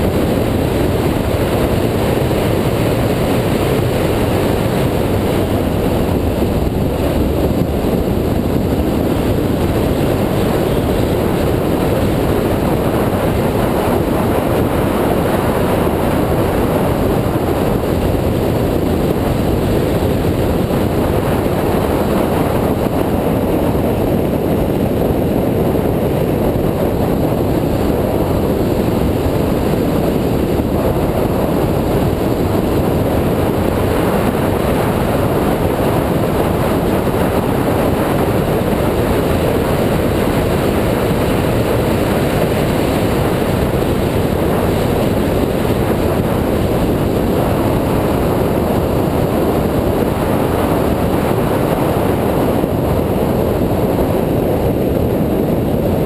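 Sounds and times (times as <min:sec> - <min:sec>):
rushing wind and road noise: 0:00.0 - 0:56.0.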